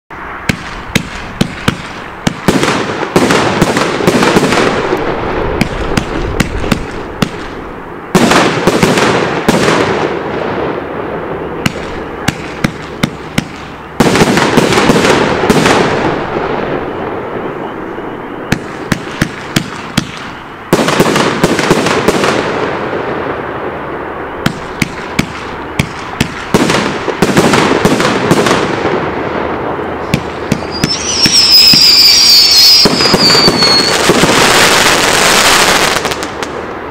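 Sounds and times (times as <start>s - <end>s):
firework dense crackle: 0.1s - 36.9s
firework sharp shots: 0.2s - 17.8s, 18.4s - 36.9s.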